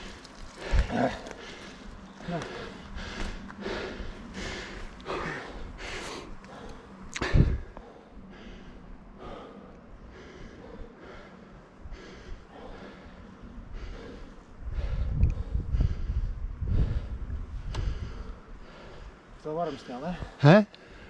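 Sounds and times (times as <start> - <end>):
person breathing hard: 0.0 - 21.0.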